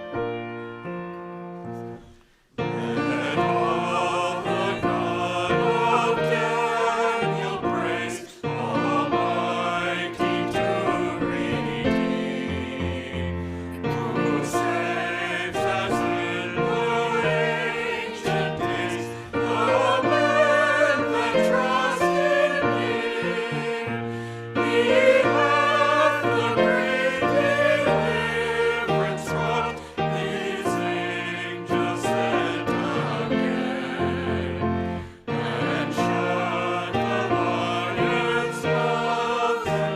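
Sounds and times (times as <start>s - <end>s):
group singing a hymn: 2.6s - 39.9s.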